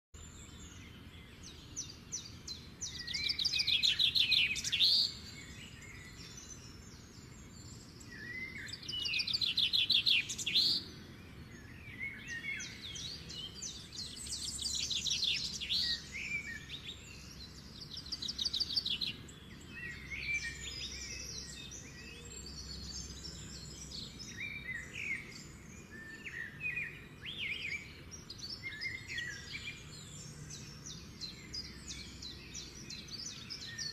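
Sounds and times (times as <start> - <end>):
small birds trilling song: 0.2 - 33.9.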